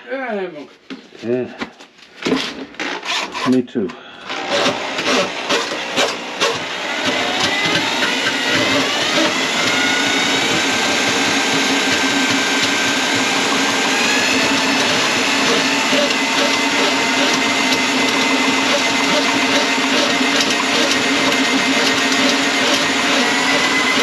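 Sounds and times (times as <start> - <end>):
electric motor whining: 4.2 - 24.0.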